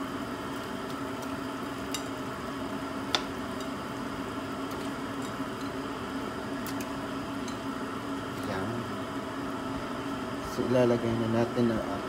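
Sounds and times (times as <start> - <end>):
broth boiling in a pot: 0.0 - 12.0
steady low hum: 0.0 - 12.0.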